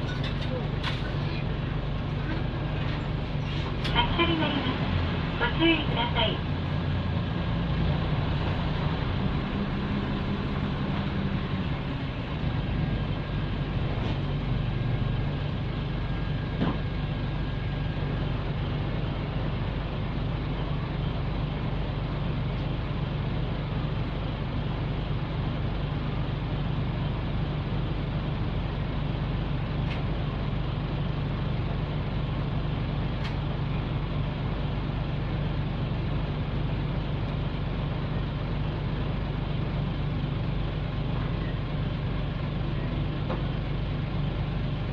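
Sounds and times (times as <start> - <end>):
bus diesel engine drone: 0.0 - 44.9.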